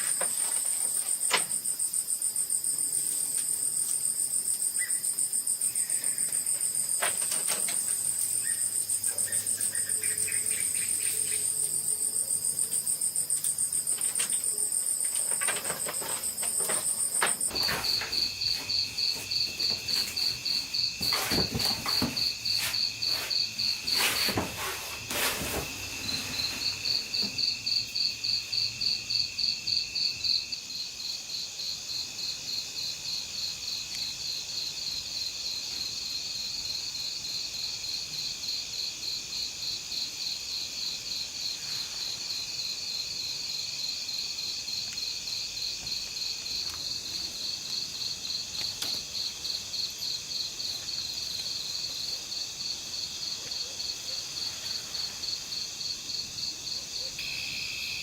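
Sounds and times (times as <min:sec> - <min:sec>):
insects chirring trill: 0:00.0 - 0:58.0.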